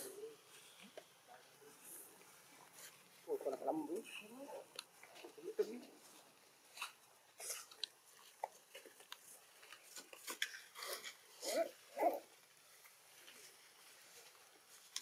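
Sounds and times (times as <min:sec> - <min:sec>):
small clicks and rustles: 0:00.4 - 0:15.0.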